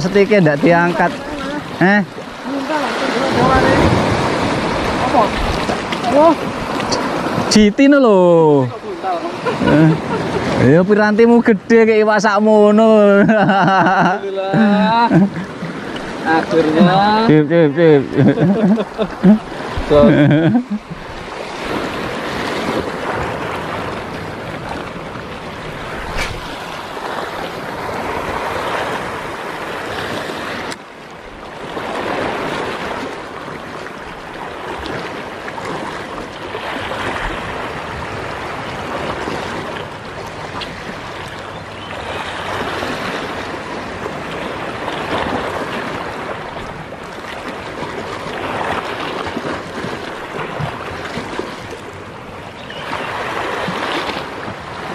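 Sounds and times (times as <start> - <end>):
waves washing against rocks: 0.0 - 54.9.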